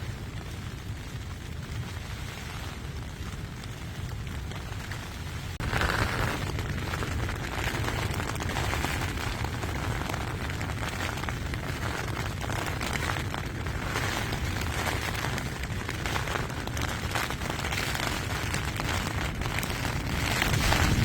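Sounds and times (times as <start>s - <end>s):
rain on tent fabric: 0.0s - 21.0s
wind buffeting tent: 0.0s - 21.0s.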